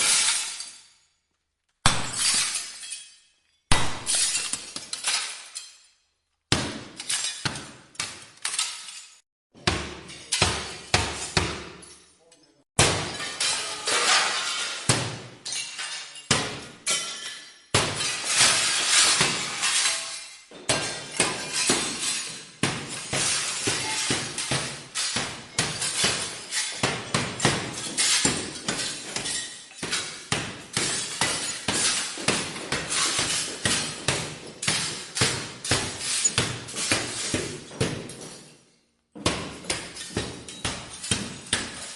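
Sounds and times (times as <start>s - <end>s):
falling glass shards: 0.0s - 1.1s, 2.0s - 6.0s, 7.0s - 9.2s, 12.9s - 38.8s, 39.7s - 41.9s
glass shattering: 0.0s - 1.1s, 1.8s - 9.2s, 10.0s - 41.9s.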